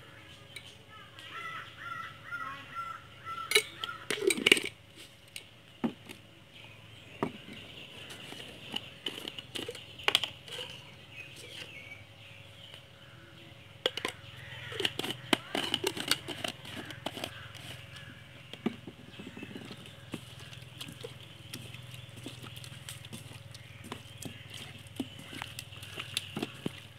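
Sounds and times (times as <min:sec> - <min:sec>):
birds calling: 0:00.0 - 0:26.9.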